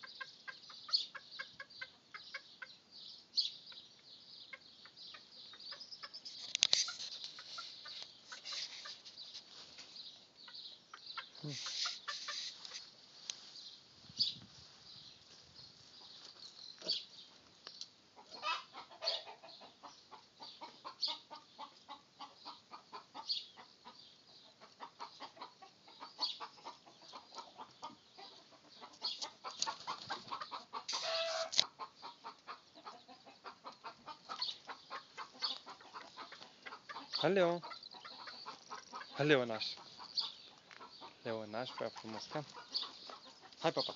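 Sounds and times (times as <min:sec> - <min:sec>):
hens clucking: 0:00.0 - 0:02.9, 0:04.4 - 0:12.9, 0:18.1 - 0:43.9.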